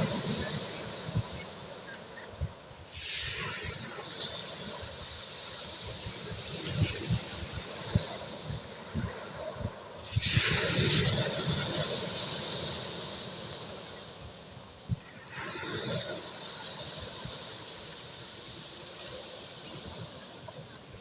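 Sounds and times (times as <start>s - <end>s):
sea waves breaking on shore: 0.0s - 21.0s.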